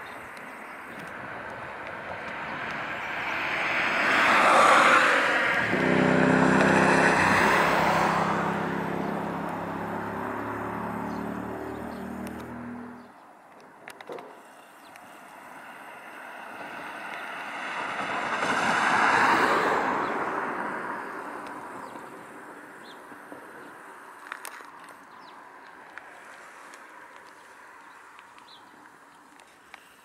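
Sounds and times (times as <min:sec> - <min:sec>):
vehicle tyres passing by: 0:00.2 - 0:13.3, 0:14.4 - 0:30.0.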